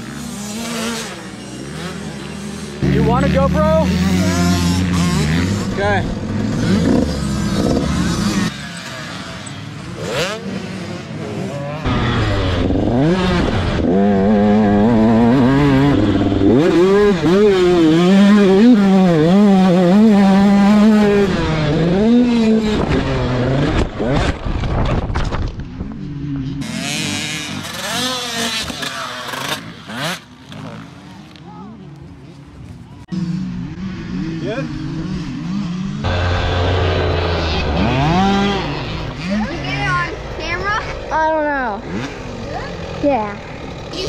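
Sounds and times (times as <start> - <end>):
dirt bike engine revving: 0.0 - 31.4, 33.1 - 44.0.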